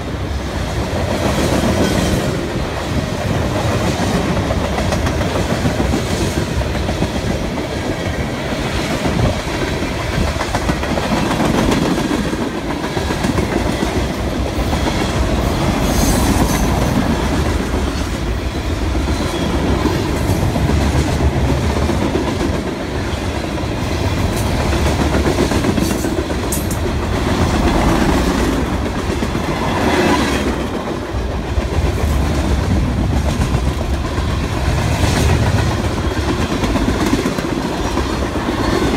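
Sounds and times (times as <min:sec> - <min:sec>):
train wheels rumbling on rails: 0:00.0 - 0:38.9
clickety-clack over rail joints: 0:00.6 - 0:38.9.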